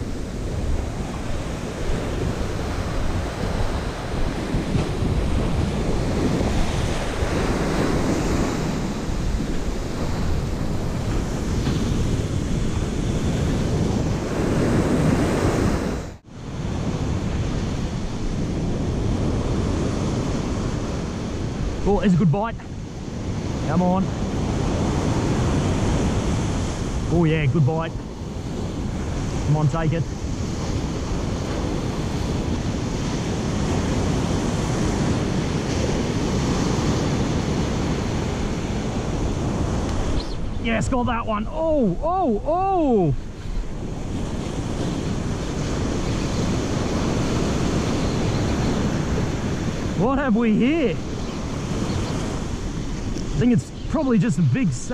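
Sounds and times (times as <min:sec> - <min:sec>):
ocean surf breaking: 0:00.0 - 0:54.9
wind buffeting microphone: 0:00.0 - 0:54.9.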